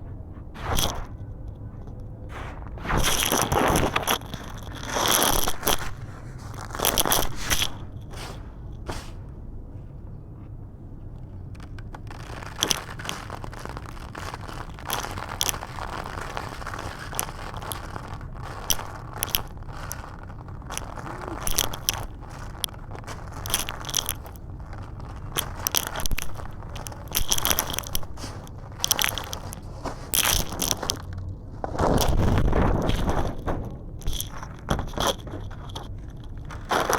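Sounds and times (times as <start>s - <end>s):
concrete crunching and crackling: 0.0s - 36.9s.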